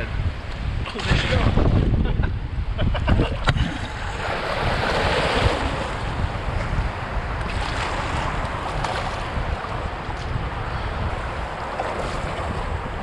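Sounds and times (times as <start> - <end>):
ocean surf washing up beach: 0.0 - 13.0
wind rumbling on microphone: 0.0 - 13.0.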